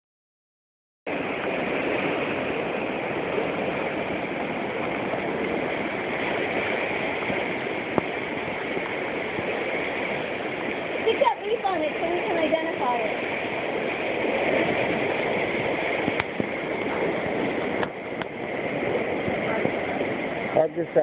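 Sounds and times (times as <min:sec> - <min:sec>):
floodwater rushing through rapids: 0:01.1 - 0:21.0.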